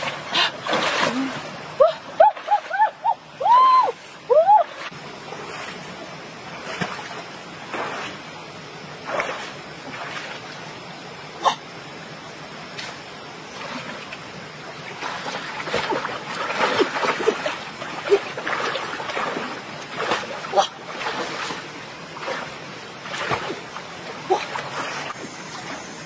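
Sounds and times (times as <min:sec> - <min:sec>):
stream water splashing: 0:00.0 - 0:26.0.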